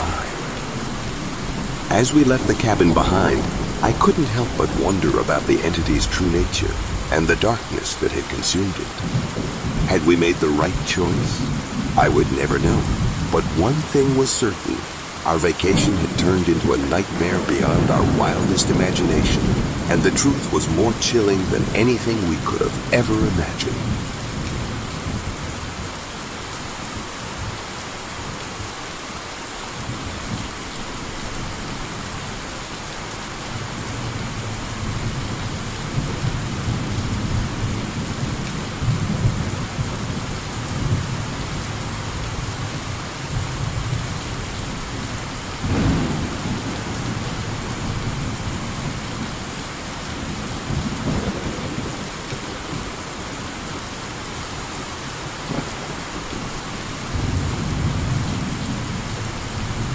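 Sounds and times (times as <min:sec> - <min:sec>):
rolling thunder: 0:00.0 - 0:14.0, 0:14.8 - 0:26.0, 0:33.4 - 0:53.0, 0:55.3 - 0:59.9
steady rain: 0:00.0 - 0:59.9.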